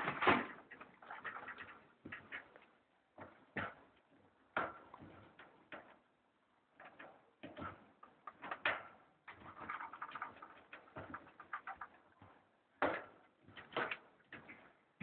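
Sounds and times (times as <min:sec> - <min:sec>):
faint clicks taps and rustles: 0:00.0 - 0:15.0.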